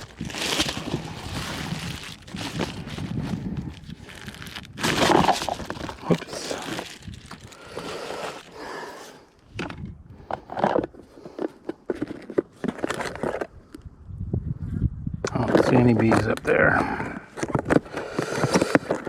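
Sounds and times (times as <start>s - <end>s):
handling rustling and scraping: 0.0s - 13.6s, 15.4s - 19.0s.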